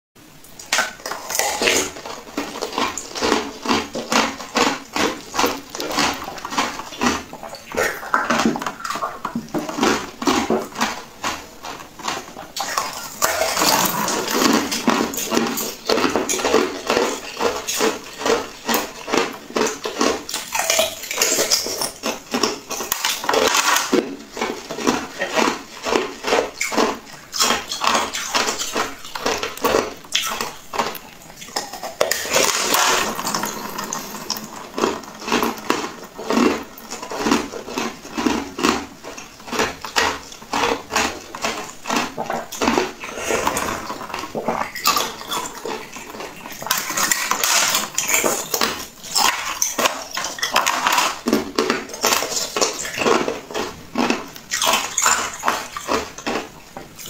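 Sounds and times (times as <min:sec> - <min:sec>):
wet chewing and squelching: 0:00.4 - 0:57.0.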